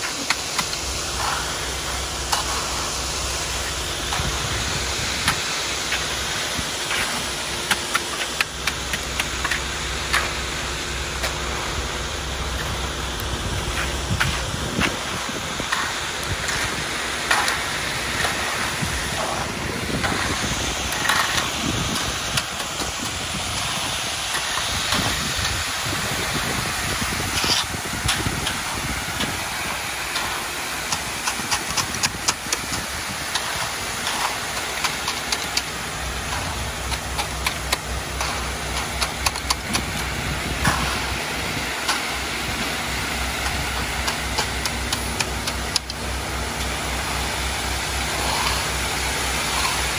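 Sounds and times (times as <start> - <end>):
rakes scraping through concrete: 0.0 - 49.9
truck engine running: 0.0 - 49.9
wet concrete pouring from chute: 0.0 - 49.9.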